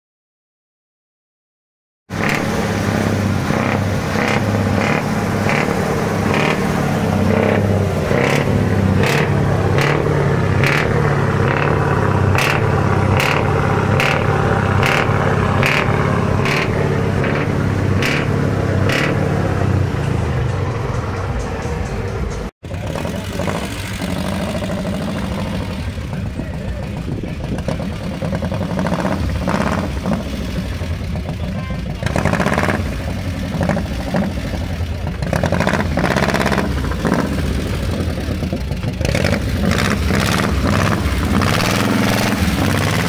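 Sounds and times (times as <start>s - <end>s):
truck diesel engine running: 2.1s - 43.0s.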